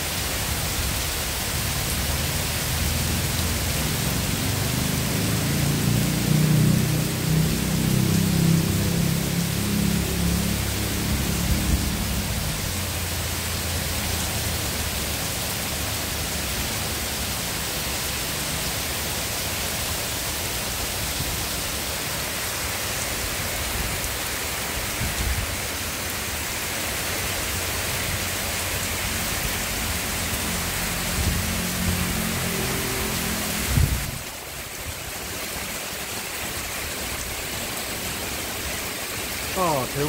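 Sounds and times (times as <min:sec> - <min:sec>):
heavy rain pouring on trees: 0:00.0 - 0:40.0.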